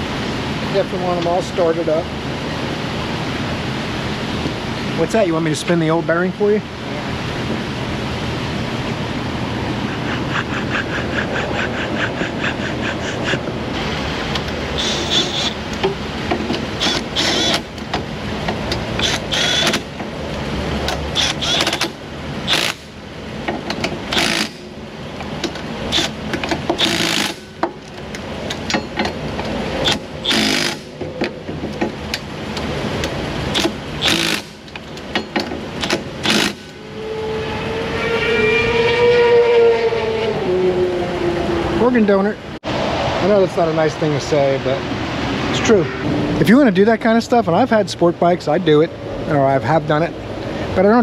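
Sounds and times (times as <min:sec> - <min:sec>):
traffic noise: 0:00.0 - 0:51.0.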